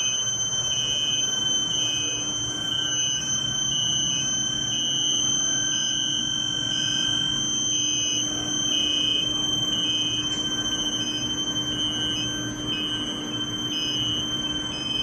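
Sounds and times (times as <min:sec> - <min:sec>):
high-pitched heating coil whine: 0:00.0 - 0:15.0.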